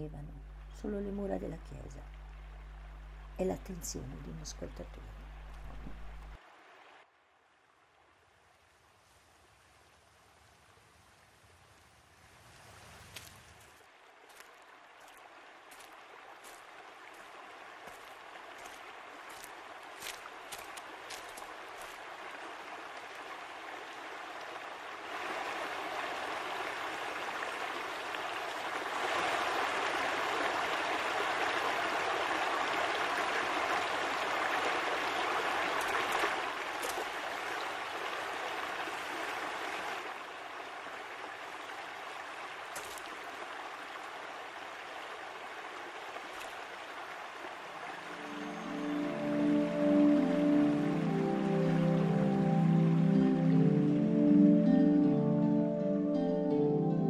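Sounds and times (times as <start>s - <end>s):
running water rushing: 0.0s - 11.7s, 12.3s - 54.1s.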